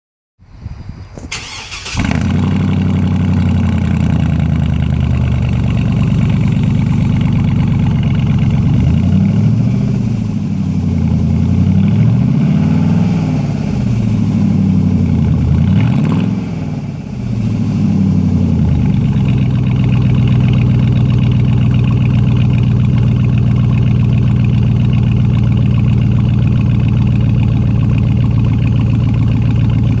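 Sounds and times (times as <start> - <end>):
car engine idling and revving: 1.1 - 30.0.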